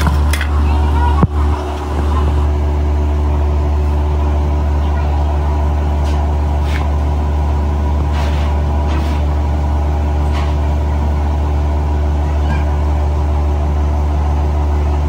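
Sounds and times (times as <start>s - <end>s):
low machinery drone: 0.0s - 15.0s.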